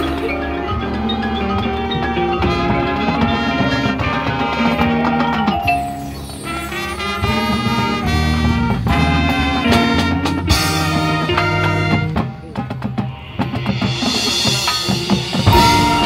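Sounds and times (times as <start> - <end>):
trumpets and saxophones: 0.0 - 12.5, 15.0 - 16.0
drums and percussion: 0.0 - 16.0.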